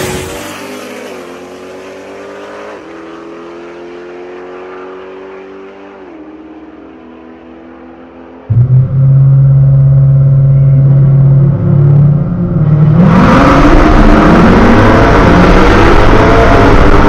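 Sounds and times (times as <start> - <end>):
car engine revving and accelerating: 0.0 - 17.0.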